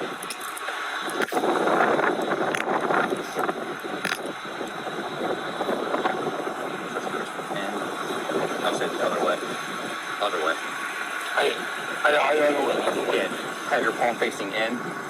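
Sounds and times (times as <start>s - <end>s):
roadside traffic: 0.0s - 15.0s
wind on microphone: 0.0s - 15.0s.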